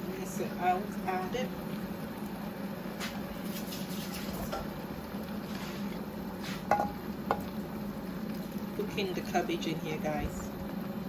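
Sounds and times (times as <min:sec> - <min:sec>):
steady low hum: 0:00.0 - 0:11.0
utensil stirring in a pot: 0:00.2 - 0:11.0.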